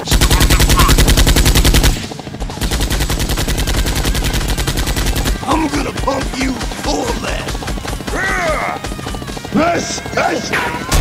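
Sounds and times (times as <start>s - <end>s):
rapid automatic cannon fire: 0.0s - 9.9s.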